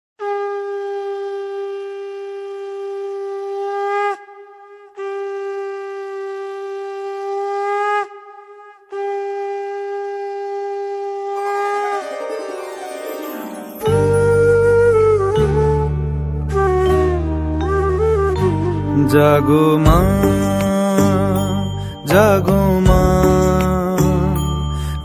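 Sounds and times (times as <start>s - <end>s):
flute-like melody: 0.2s - 25.0s.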